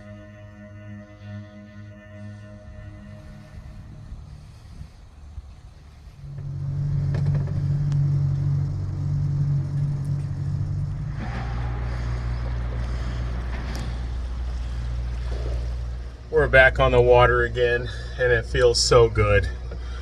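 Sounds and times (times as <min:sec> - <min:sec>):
boat engine running: 0:00.0 - 0:20.0
hiss of water and wind: 0:02.6 - 0:20.0.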